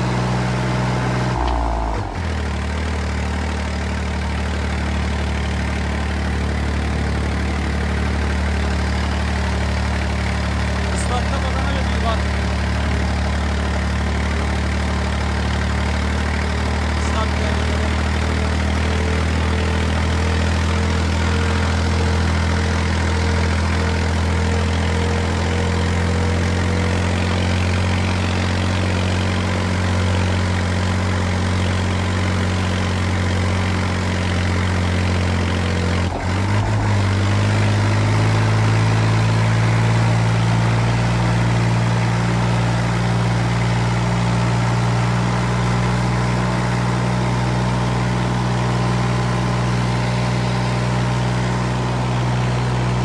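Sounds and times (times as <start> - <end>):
tractor diesel engine revving: 0.0 - 53.0.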